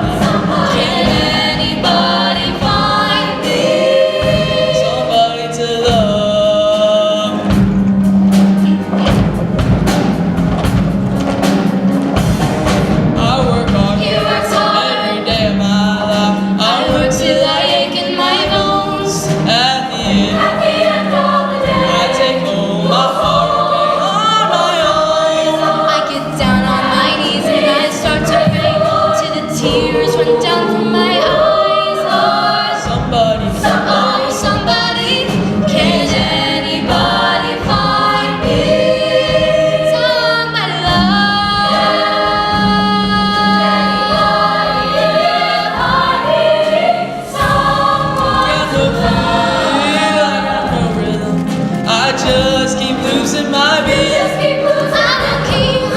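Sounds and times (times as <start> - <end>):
choir singing with music: 0.0 - 55.9.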